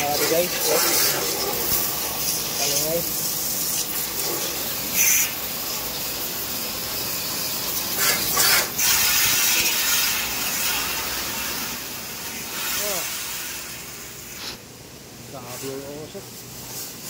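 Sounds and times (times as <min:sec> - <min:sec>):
pressure washer jet hissing: 0:00.0 - 0:14.7.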